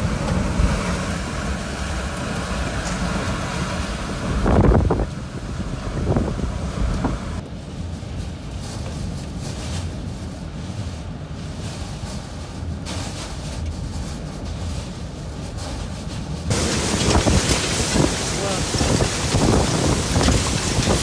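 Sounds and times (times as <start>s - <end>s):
wind and rain buffeting vehicle: 0.0s - 21.0s.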